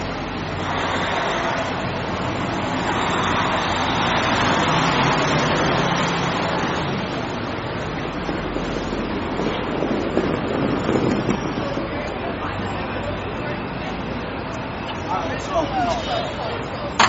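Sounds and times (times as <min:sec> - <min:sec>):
passing vehicle: 0:00.0 - 0:17.0.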